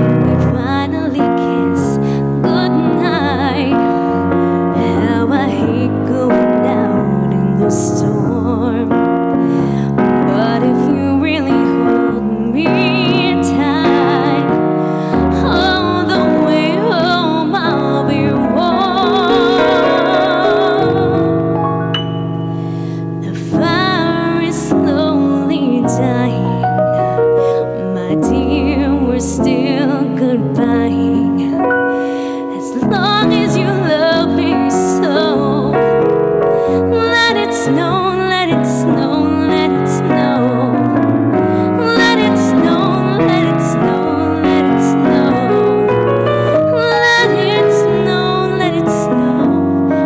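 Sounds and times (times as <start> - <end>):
woman singing with vibrato: 0.0 - 21.4, 23.2 - 26.7, 27.5 - 35.9, 36.6 - 50.0
electric keyboard piano accompaniment: 0.0 - 50.0.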